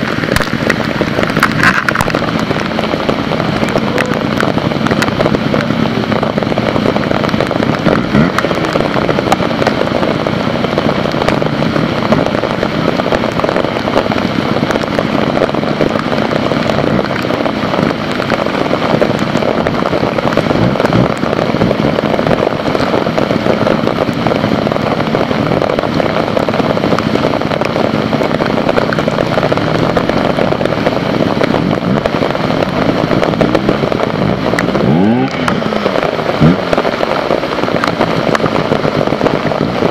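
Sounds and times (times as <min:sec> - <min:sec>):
heavy rain pattering: 0:00.0 - 0:39.9
motorcycle engines revving: 0:00.0 - 0:39.9.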